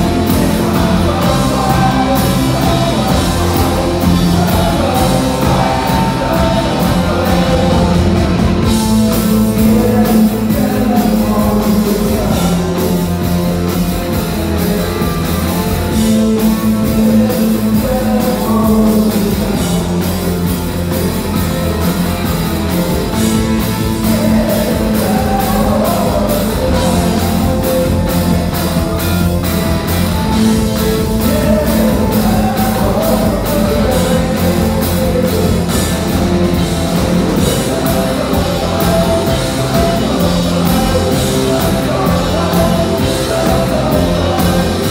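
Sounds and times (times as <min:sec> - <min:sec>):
person singing: 0:00.0 - 0:44.9
rock band playing live: 0:00.0 - 0:44.9.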